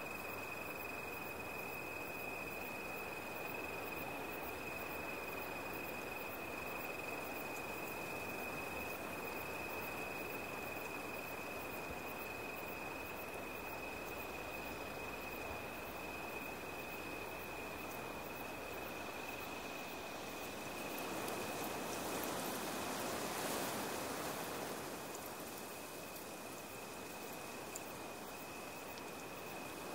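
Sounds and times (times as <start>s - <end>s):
high insect trill: 0.0s - 29.9s
soft hiss: 0.0s - 29.9s.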